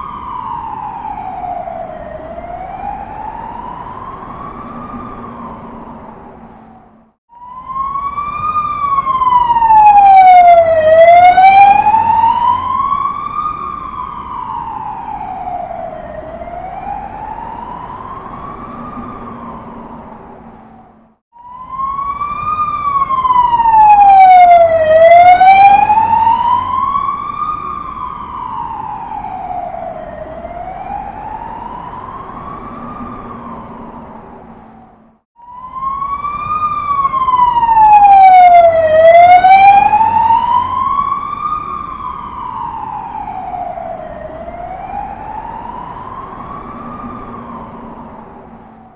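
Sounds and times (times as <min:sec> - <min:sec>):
low street rumble: 0:00.0 - 0:48.9
police siren wailing: 0:00.0 - 0:48.9.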